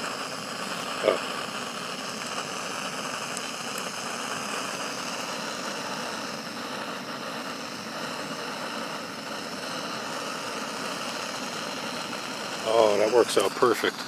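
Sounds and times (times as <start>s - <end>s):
camp stove burner hissing: 0.0s - 14.0s.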